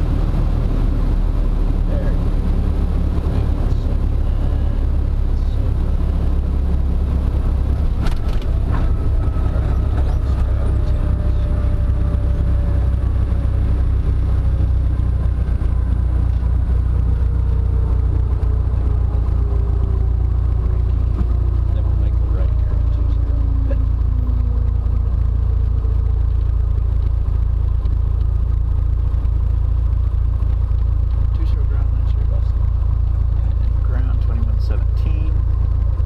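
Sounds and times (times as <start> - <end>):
faint whine: 0.0 - 36.0
light aircraft engine drone: 0.0 - 36.0.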